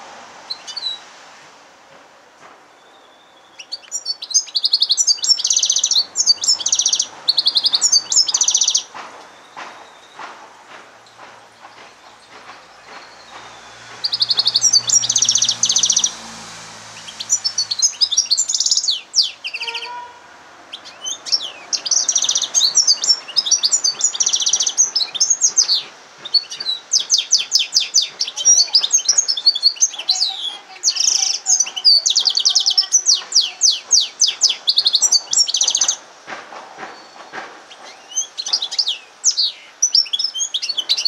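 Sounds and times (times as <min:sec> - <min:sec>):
canary singing trills: 0:02.8 - 0:10.3, 0:11.7 - 0:16.3, 0:16.9 - 0:36.0, 0:37.0 - 0:41.0.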